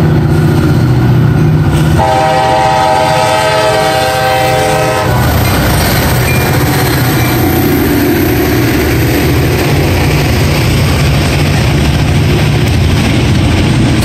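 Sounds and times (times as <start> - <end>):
diesel locomotive passing: 0.0 - 14.0.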